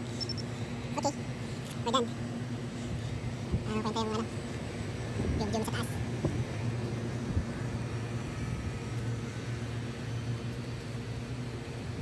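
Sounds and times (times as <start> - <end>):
city hum and rumble: 0.0 - 12.0.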